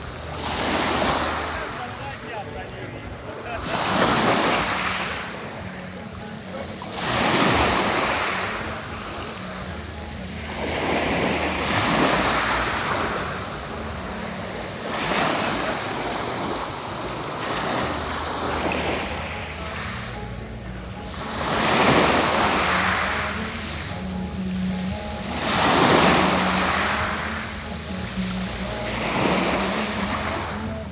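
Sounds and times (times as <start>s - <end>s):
waves breaking: 0.0s - 30.9s.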